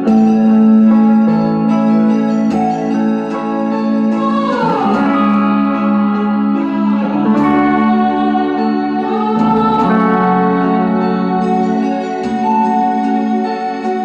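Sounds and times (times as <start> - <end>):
guitar playing mournful melody: 0.0 - 14.0
sustained backing chords: 0.0 - 14.0.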